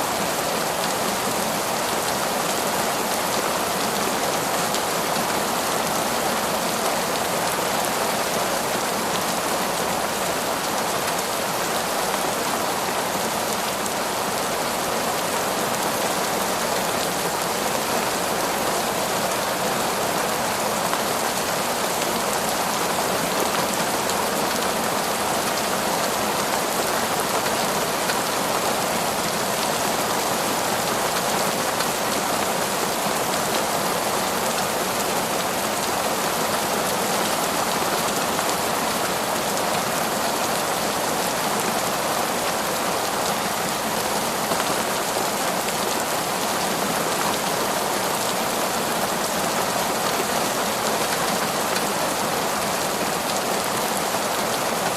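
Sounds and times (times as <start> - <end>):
heavy rain in a forest: 0.0 - 54.9.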